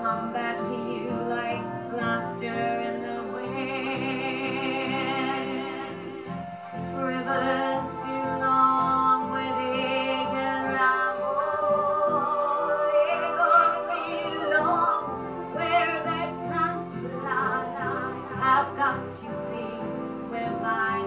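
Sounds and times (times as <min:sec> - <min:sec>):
instrumental backing music: 0:00.0 - 0:21.0
person singing long notes: 0:00.0 - 0:21.0.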